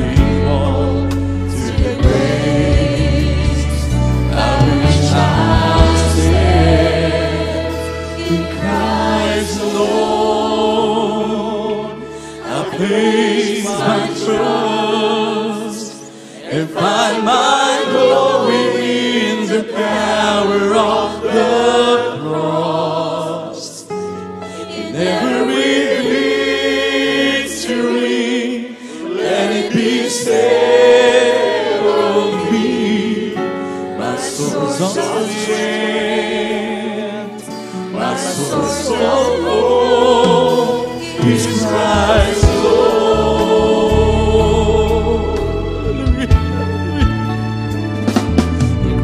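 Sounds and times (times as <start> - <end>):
voices singing in harmony: 0.0 - 48.0
electric keyboard: 0.0 - 49.0.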